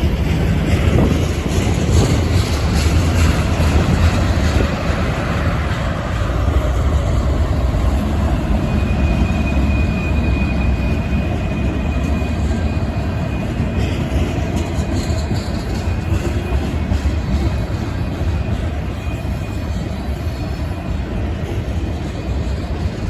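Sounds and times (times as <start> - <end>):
freight train cars rolling: 0.0 - 23.0
wheel squeal: 0.4 - 22.7.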